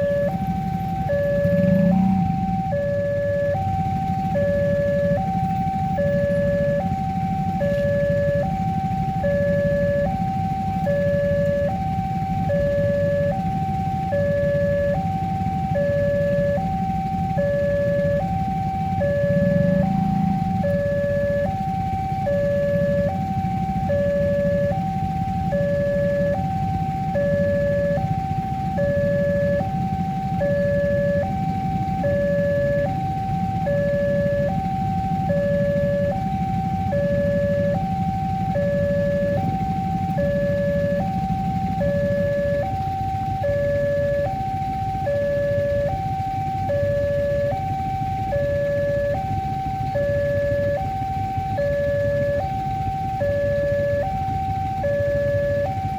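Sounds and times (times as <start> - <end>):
level crossing two-tone alarm: 0.0 - 55.9.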